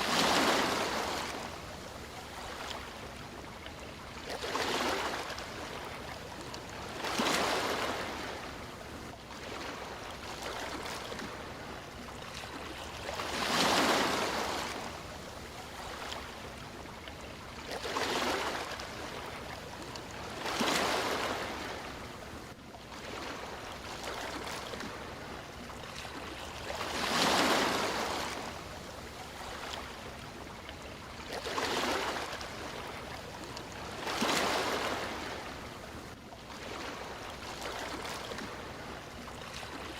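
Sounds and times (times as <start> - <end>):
sea waves washing onto shore: 0.0 - 16.7, 17.6 - 39.9.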